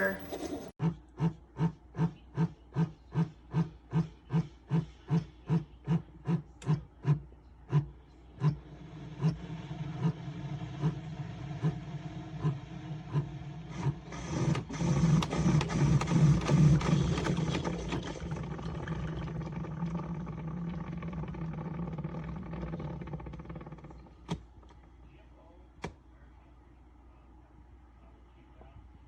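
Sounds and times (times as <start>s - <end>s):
coffee maker pump humming: 1.6s - 25.0s.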